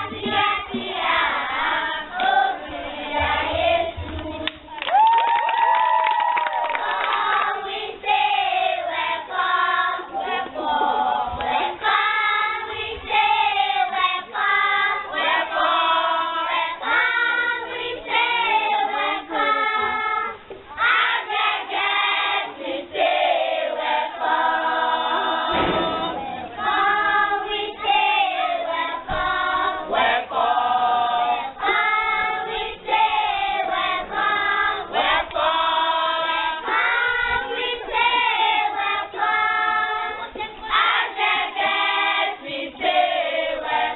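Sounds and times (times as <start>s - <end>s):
children's choir singing: 0.0s - 4.9s, 6.6s - 43.9s.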